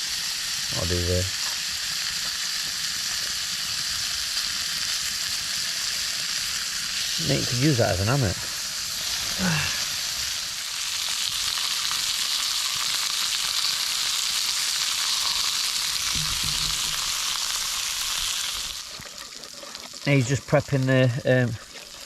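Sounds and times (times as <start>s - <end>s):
food sizzling over a campfire: 0.0s - 22.0s.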